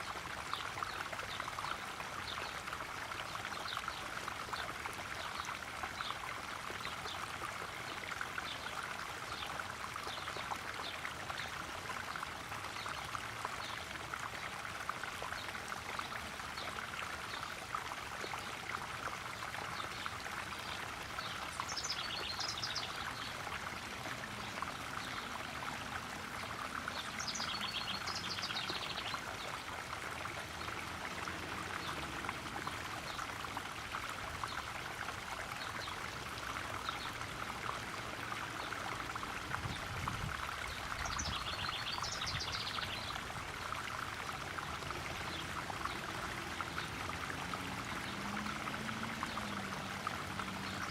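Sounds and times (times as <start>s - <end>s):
small waterfall splashing: 0.0s - 50.9s.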